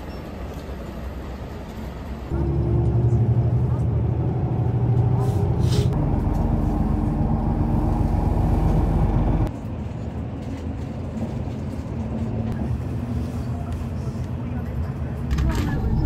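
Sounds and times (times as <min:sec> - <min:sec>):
bus engine drone: 0:00.0 - 0:16.0
road rumble: 0:00.2 - 0:16.0.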